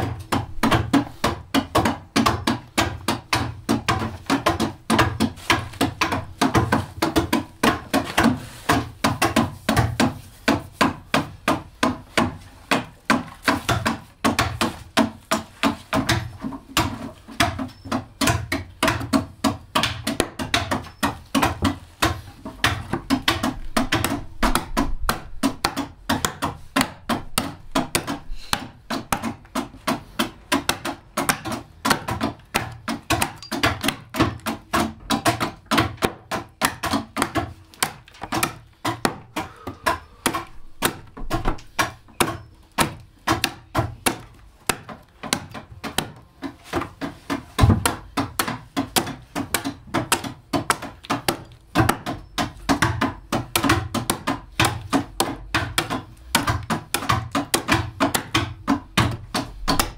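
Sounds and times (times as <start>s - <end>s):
carving tool knocking into wood: 0.0s - 59.9s.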